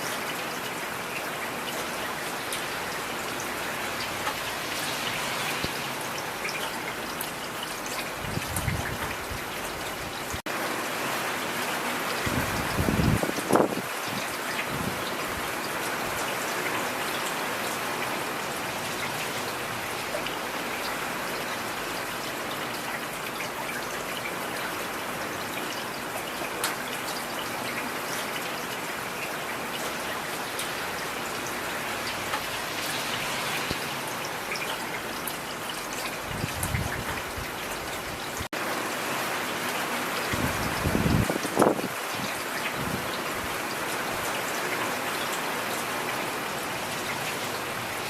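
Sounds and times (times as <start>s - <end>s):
heavy rain falling: 0.0s - 48.0s
raindrops striking close by: 0.0s - 48.0s.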